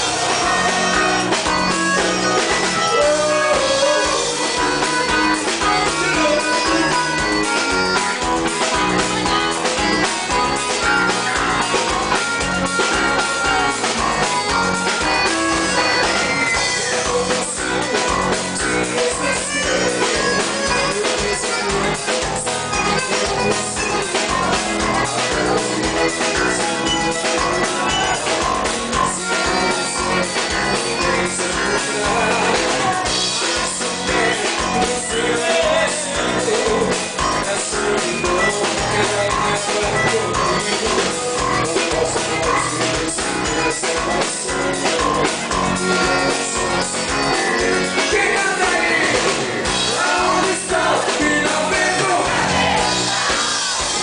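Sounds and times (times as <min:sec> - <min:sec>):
drum kit steady beat: 0:00.0 - 0:54.0
live dance band playing: 0:00.0 - 0:54.0.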